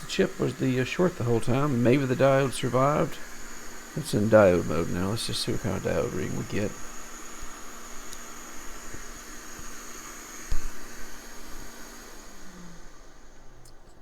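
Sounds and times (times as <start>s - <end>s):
fan-like hiss: 0.0s - 14.0s
high faint whine: 0.0s - 14.0s.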